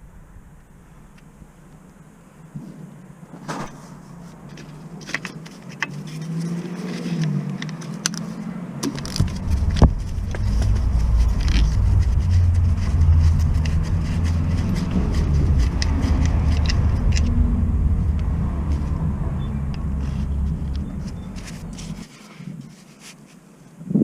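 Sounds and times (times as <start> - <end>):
motor vehicle rumble: 0.0 - 22.7
clicks and scrapes: 3.4 - 23.4.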